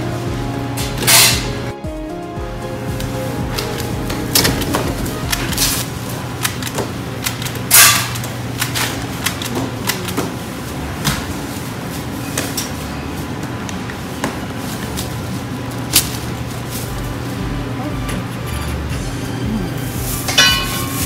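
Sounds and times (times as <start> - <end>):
kitchen equipment hum: 0.0 - 1.8, 2.6 - 21.0.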